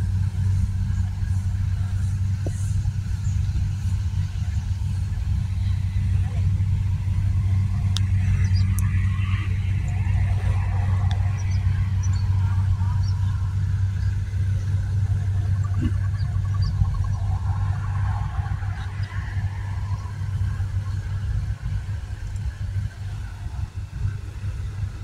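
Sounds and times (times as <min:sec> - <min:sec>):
combine harvester engine hum: 0:00.0 - 0:25.0
faint machinery clatter: 0:00.0 - 0:25.0.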